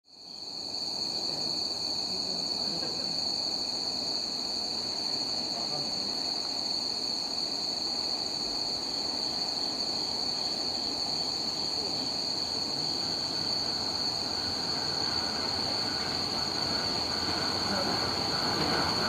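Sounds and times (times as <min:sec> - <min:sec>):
insects trilling: 0:00.1 - 0:19.0
electric train rumble: 0:00.4 - 0:19.0.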